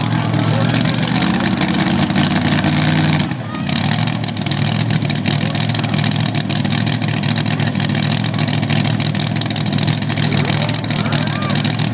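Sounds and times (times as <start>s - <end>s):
truck engine idling loud: 0.0s - 11.9s.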